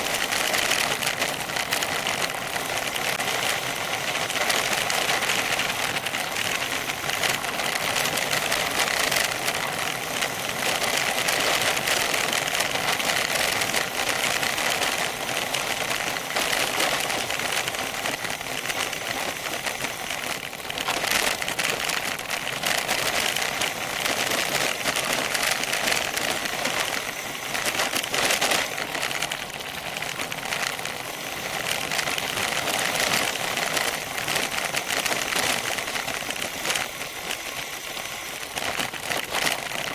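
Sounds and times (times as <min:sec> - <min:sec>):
bicycle rattling: 0:00.0 - 0:39.9.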